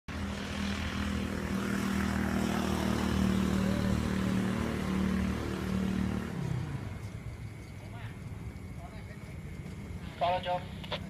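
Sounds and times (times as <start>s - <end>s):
vehicle engine humming: 0.1s - 11.0s.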